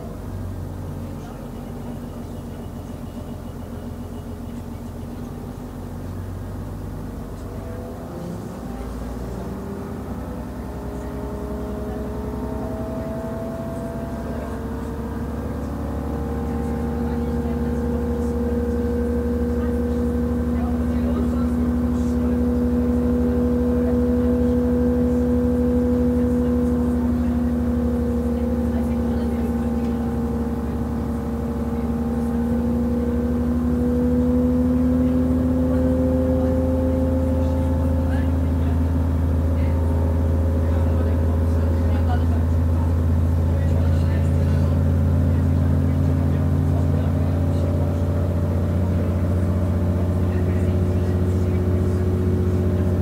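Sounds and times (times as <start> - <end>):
diesel railcar engine under load: 0.0 - 53.0.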